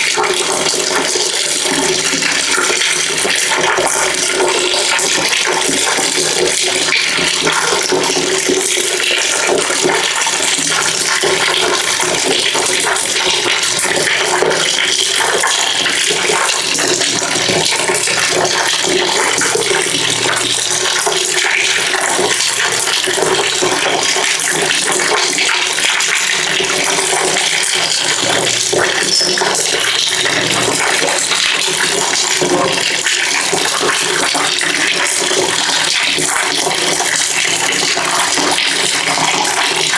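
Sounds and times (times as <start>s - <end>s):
water pouring into a bucket: 0.0s - 39.9s.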